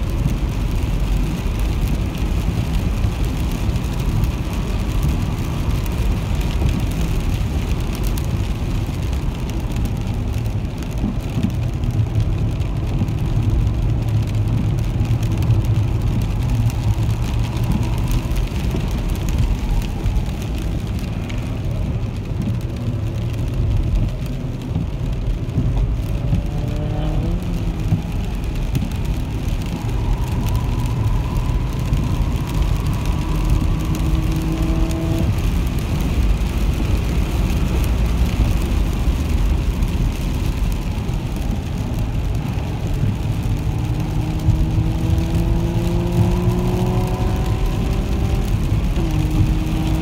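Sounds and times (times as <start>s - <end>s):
tyres rumbling on wet road: 0.0s - 50.0s.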